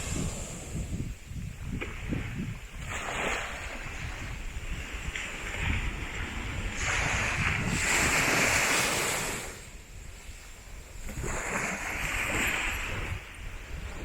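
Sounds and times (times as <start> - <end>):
surf on sandy beach: 0.0 - 14.0
wind on microphone: 0.0 - 14.0.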